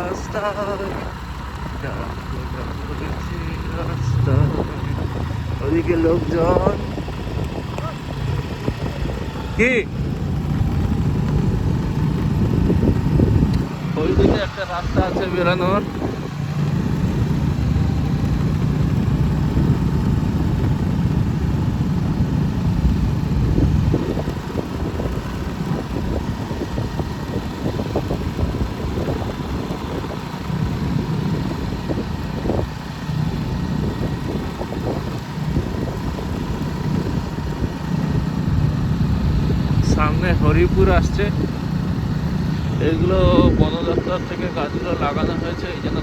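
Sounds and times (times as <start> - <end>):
motorcycle engine rumbling: 0.0 - 46.0.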